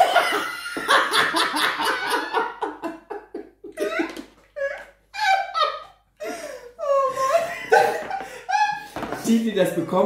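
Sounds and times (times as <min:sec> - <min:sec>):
people laughing: 0:00.0 - 0:08.9.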